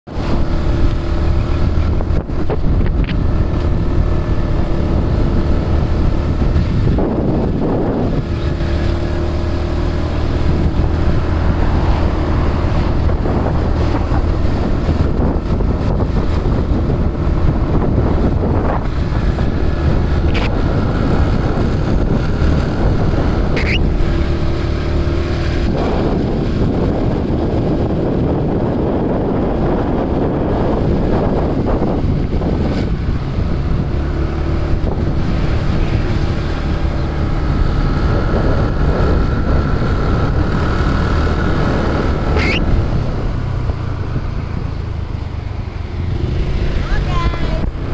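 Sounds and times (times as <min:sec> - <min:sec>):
motorcycle engine cruising: 0:00.1 - 0:47.9
wind buffeting microphone: 0:00.1 - 0:47.9.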